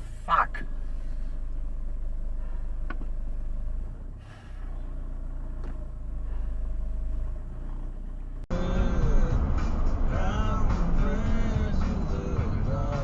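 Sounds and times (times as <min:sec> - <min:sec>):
car rumbling on road: 0:00.0 - 0:13.0.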